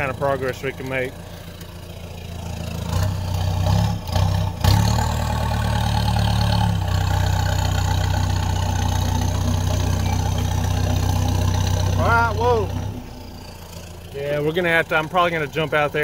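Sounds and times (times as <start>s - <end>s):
diesel engine pulling under load: 0.0s - 16.0s.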